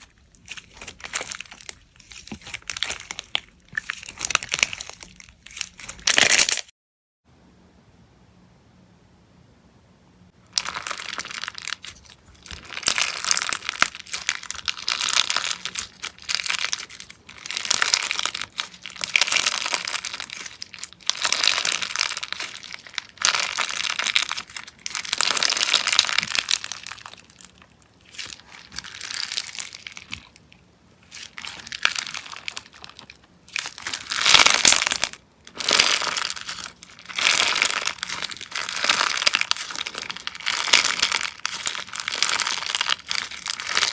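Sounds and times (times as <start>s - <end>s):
slime crackling when squeezed: 0.0s - 6.7s, 10.5s - 43.9s.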